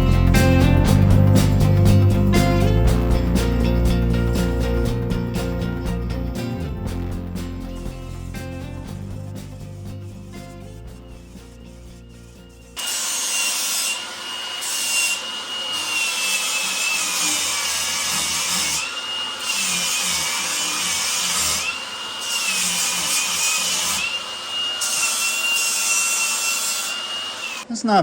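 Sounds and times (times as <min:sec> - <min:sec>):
angle grinder grinding steel: 0:00.0 - 0:27.7.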